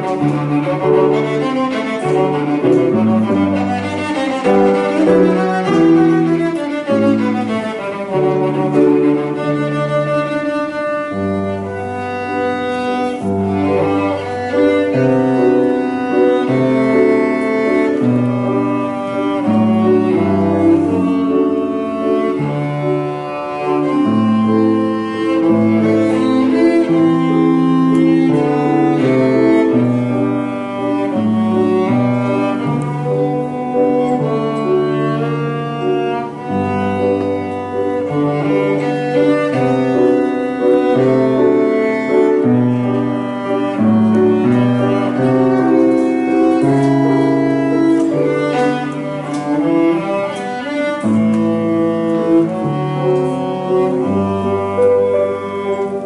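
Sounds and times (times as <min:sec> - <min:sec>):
cello bowed notes: 0:00.0 - 0:56.0
piano chords: 0:00.0 - 0:56.0.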